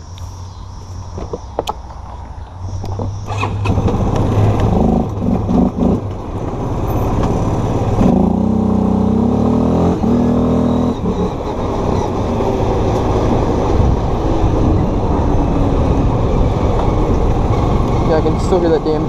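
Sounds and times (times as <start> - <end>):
atv engine revving: 2.7 - 19.0.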